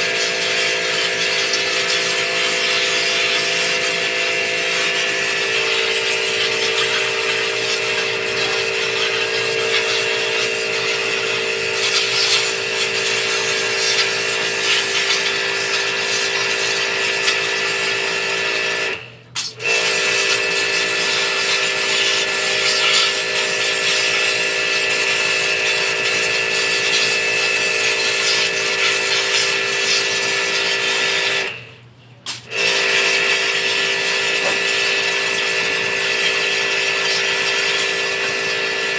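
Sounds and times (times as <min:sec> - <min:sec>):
water spraying: 0:00.0 - 0:18.7, 0:19.4 - 0:31.5, 0:32.3 - 0:38.9
pressure washer running: 0:00.0 - 0:31.7, 0:32.3 - 0:38.9.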